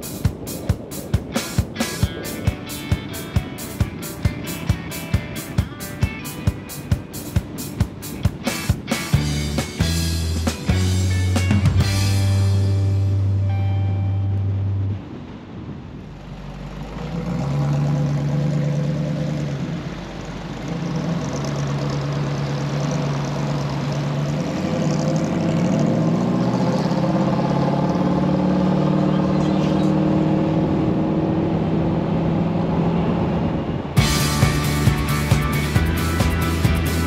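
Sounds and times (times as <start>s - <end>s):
car engine roaring: 0.0s - 37.0s.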